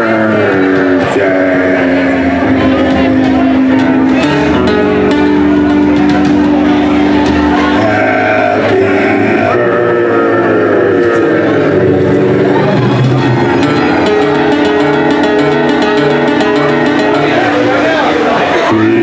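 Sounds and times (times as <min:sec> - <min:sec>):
live band playing instrumental: 0:00.0 - 0:09.2, 0:11.6 - 0:19.0
acoustic guitar: 0:00.0 - 0:19.0
long held notes: 0:02.4 - 0:19.0.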